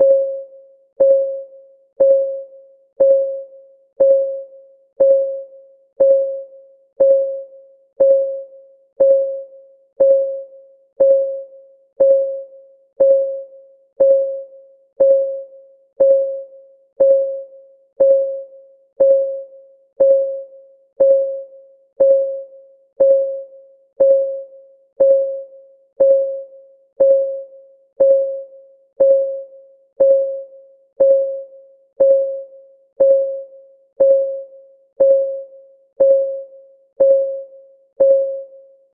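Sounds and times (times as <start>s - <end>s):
electronic timer ticks: 1.0s - 38.5s.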